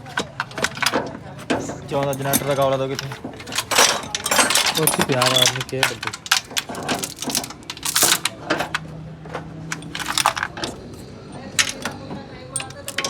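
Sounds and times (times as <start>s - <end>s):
tools and engine parts clinking: 0.0s - 13.0s.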